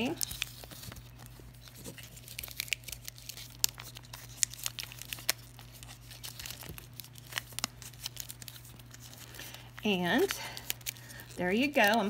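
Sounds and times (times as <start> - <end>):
paper crinkling and crackling: 0.0 - 12.0.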